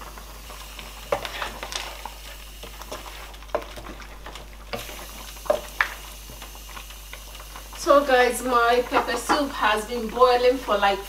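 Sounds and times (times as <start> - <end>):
soup bubbling at a boil: 0.0 - 11.0.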